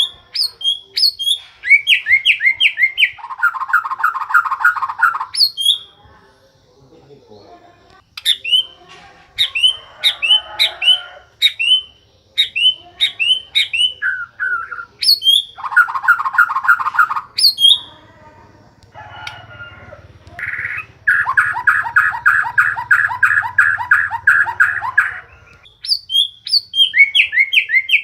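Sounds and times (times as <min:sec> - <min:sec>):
songbird whistling and trilling: 0:00.0 - 0:06.0, 0:08.2 - 0:08.8, 0:09.4 - 0:17.9, 0:20.4 - 0:28.0.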